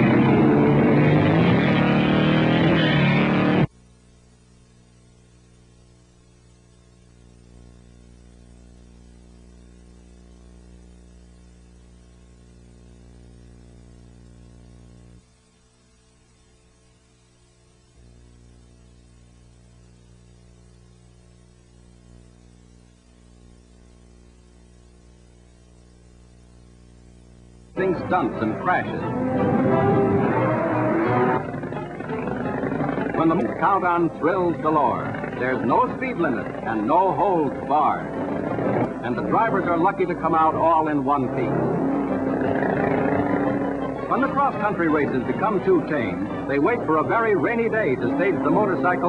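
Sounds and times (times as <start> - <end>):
low electrical hum: 0.0 - 49.0.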